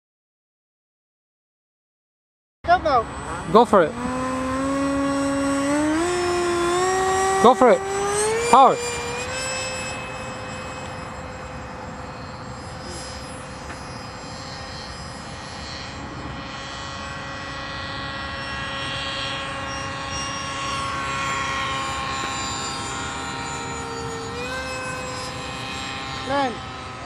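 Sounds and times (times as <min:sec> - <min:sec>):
model jet fan whining: 0:02.7 - 0:27.0.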